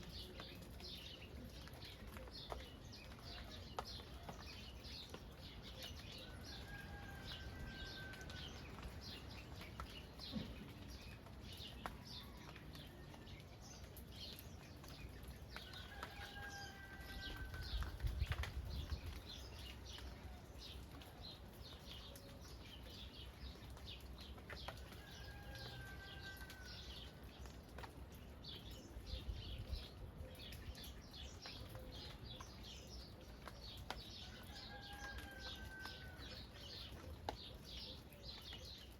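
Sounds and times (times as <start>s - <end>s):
light rain: 0.0s - 38.9s
small birds chirping: 0.0s - 38.9s.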